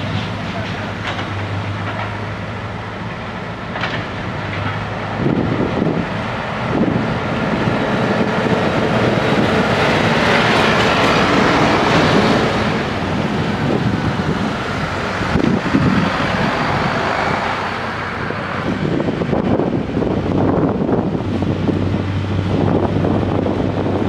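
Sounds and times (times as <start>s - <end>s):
diesel engine running: 0.0s - 24.0s
road traffic passing: 0.0s - 24.0s.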